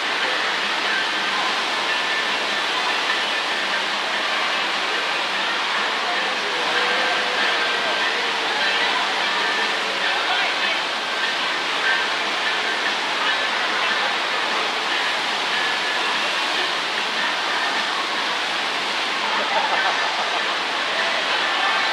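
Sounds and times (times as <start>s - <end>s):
roar of rushing water: 0.0s - 21.9s.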